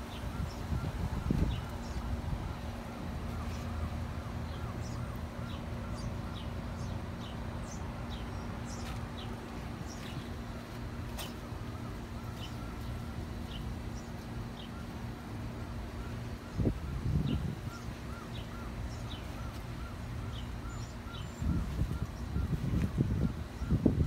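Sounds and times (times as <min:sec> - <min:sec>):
faint hum: 0:00.0 - 0:24.0
small birds chirping: 0:00.0 - 0:24.0.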